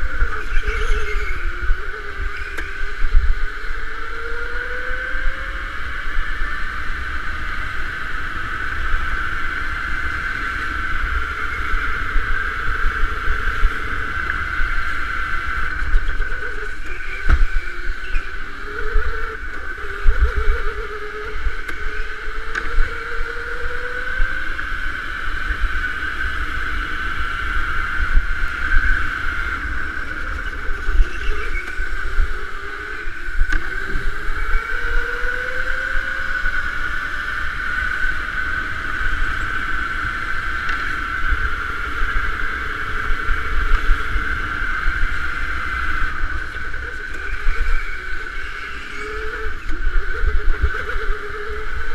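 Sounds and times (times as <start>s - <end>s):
low rumble of kart on track: 0.0s - 51.9s
electric motor whining: 8.6s - 51.9s.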